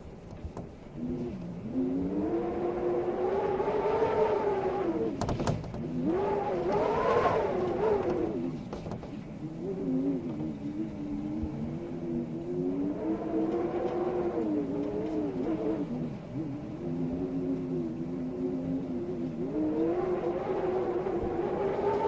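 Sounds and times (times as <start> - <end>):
wind howling in gusts: 0.0 - 22.0.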